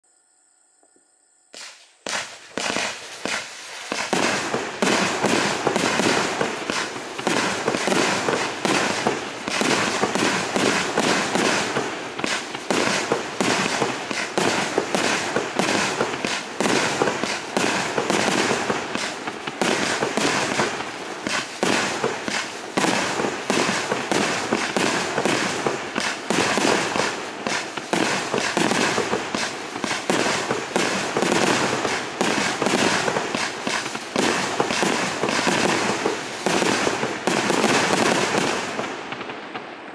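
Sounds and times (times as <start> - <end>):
firework shots and crackling: 1.5 - 39.9.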